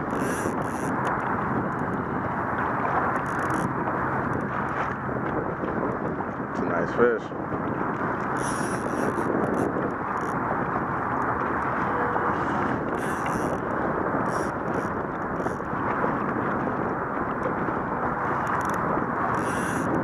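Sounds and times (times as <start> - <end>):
wind rushing on microphone: 0.0 - 20.0.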